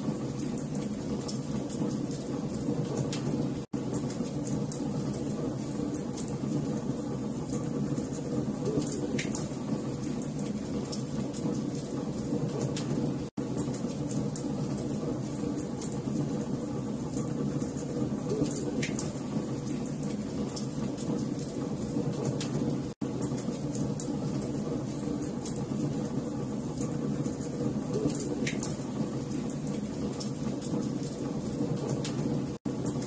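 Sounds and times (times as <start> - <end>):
fire crackling and popping: 0.3 - 33.0.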